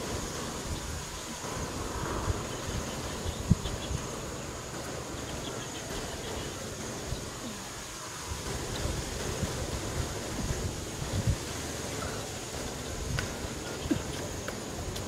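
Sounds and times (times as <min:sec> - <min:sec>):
low rustling noise: 0:00.0 - 0:15.0.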